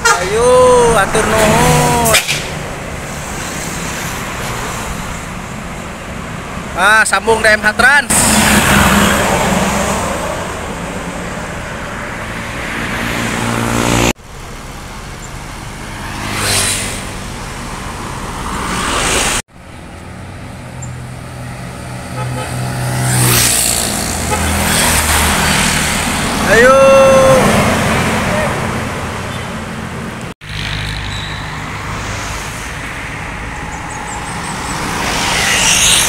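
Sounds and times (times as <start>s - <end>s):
buses passing by: 0.0s - 36.0s
road noise: 0.0s - 36.0s.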